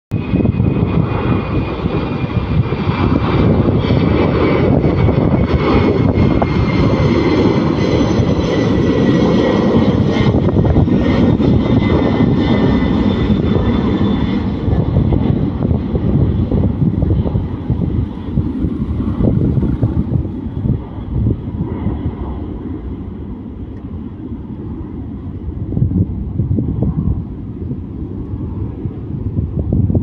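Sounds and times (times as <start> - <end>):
high jet whine: 0.1 - 30.0
jet engines rumbling: 0.1 - 30.0.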